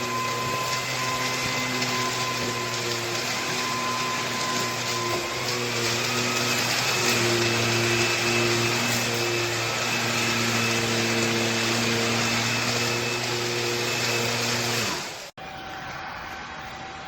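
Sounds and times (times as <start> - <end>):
stick vacuum motor whine: 0.0 - 15.3.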